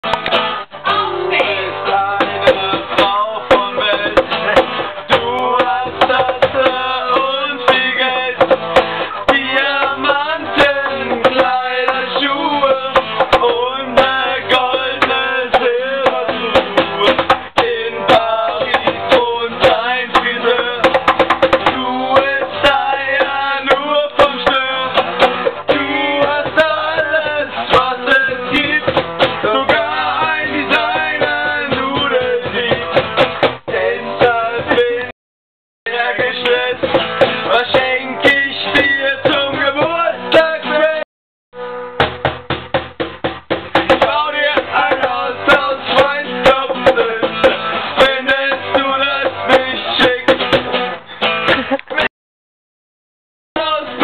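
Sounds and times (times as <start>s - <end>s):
acoustic guitar strumming: 0.0s - 35.1s, 35.9s - 52.1s
cajon slapping a beat: 0.0s - 35.1s, 35.9s - 41.0s, 41.9s - 52.1s
men singing along: 0.9s - 35.2s, 35.9s - 41.1s, 43.8s - 50.6s, 53.6s - 54.0s.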